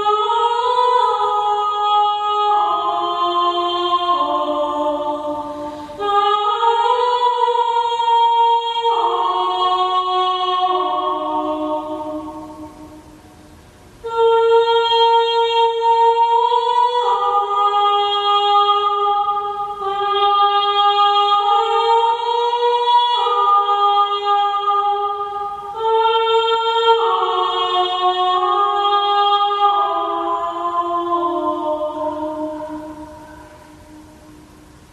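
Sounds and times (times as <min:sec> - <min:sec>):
wordless singing: 0:00.0 - 0:13.2, 0:14.0 - 0:34.4.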